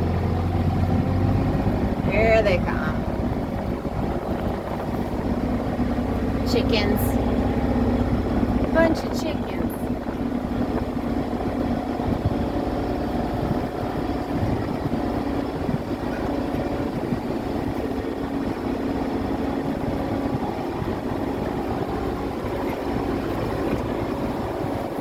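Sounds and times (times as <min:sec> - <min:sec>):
utility vehicle engine running: 0:00.0 - 0:25.0.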